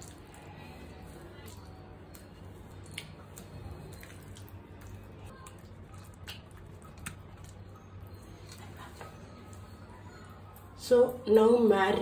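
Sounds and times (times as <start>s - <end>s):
wet squishing of paste by hand: 0.0s - 10.6s
low steady hum: 0.0s - 12.0s.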